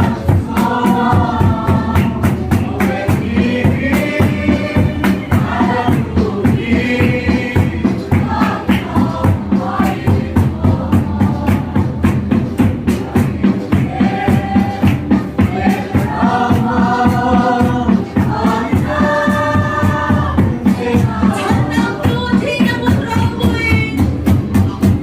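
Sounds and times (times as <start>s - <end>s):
group singing a gospel hymn: 0.0s - 23.5s
steady drumbeat: 0.0s - 25.0s.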